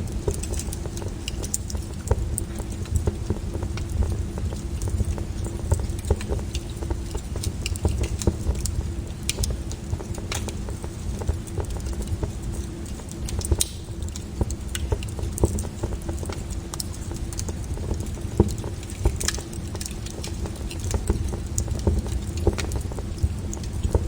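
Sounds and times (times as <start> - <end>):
wood bonfire crackling: 0.0 - 24.0.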